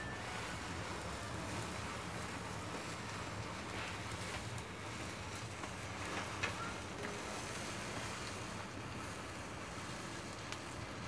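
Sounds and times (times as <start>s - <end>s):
fire crackles: 0.0s - 11.0s.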